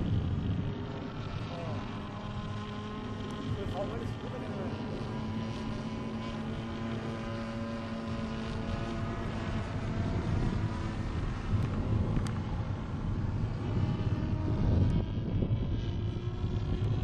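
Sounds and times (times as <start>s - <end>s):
model aeroplane engine: 0.0s - 17.0s
wind buffeting microphone: 0.0s - 17.0s.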